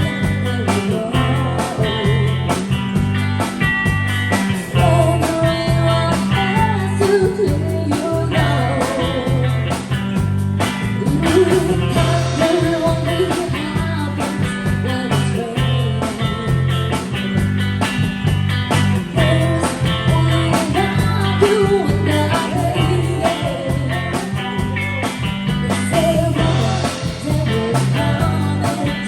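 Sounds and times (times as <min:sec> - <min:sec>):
person singing: 0:00.0 - 0:02.9, 0:04.6 - 0:10.0, 0:10.9 - 0:17.2, 0:19.0 - 0:29.0
drums: 0:00.0 - 0:29.0
guitar: 0:00.0 - 0:29.0
repeating bass line: 0:00.0 - 0:29.0.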